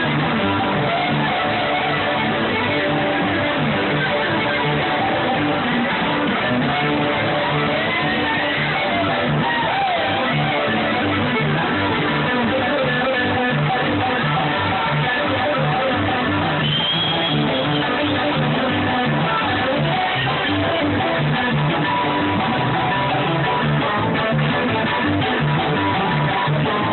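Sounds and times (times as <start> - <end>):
plucked bass notes: 0.0 - 26.9
strummed guitar: 0.0 - 26.9.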